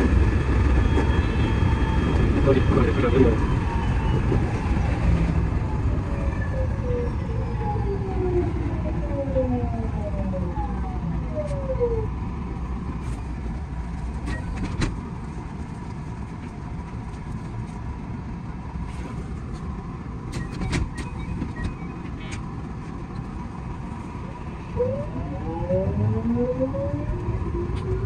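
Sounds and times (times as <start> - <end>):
train running noise: 0.0 - 7.7, 12.2 - 28.0.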